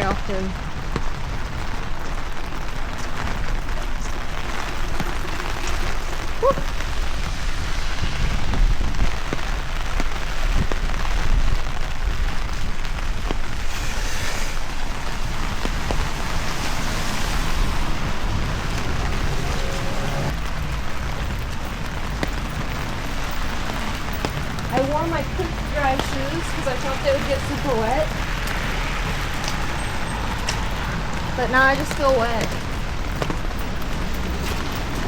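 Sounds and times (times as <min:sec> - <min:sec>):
steady rain: 0:00.0 - 0:35.0
wind rumbling on microphone: 0:00.0 - 0:35.0.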